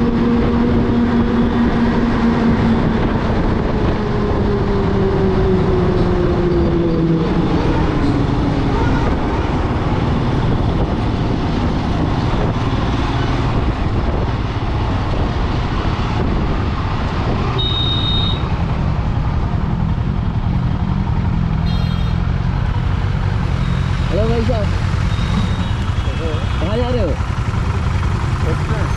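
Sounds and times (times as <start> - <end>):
vehicle engine and road noise: 0.0 - 28.9.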